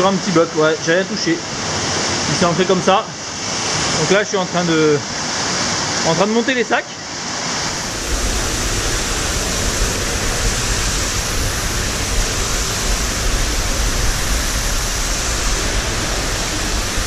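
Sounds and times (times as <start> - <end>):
rushing mountain torrent: 0.0 - 17.0.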